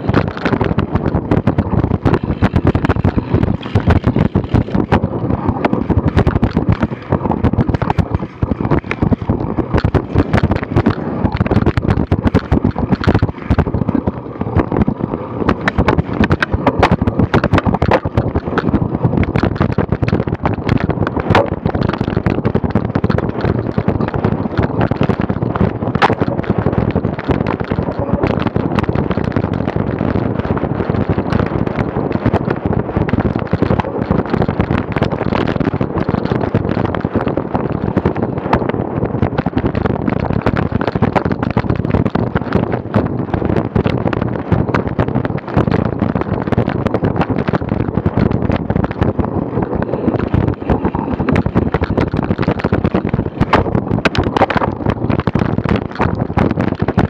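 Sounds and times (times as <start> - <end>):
bike rattling and knocking: 0.0 - 57.0
wind buffeting microphone: 0.0 - 57.0.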